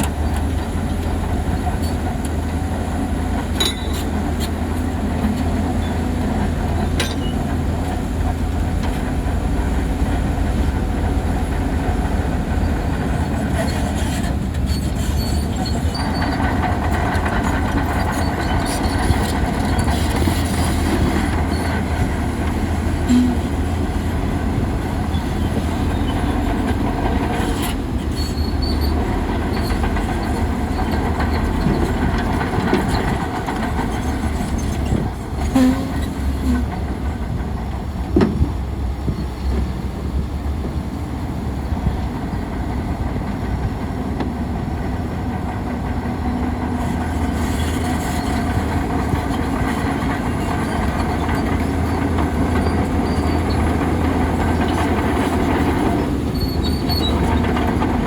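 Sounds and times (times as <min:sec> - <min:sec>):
bulldozer diesel rumble: 0:00.0 - 0:58.0
steel tracks clanking and squealing: 0:00.0 - 0:58.0.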